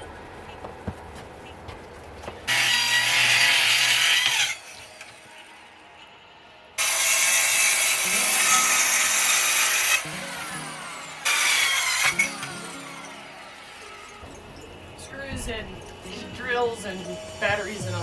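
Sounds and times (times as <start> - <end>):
power saw cutting wood: 2.5 - 5.8, 6.8 - 18.0.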